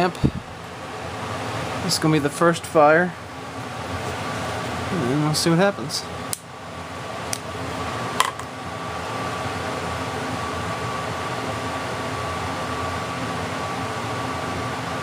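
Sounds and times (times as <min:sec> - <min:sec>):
fan-like whirring hum: 0:00.0 - 0:15.0.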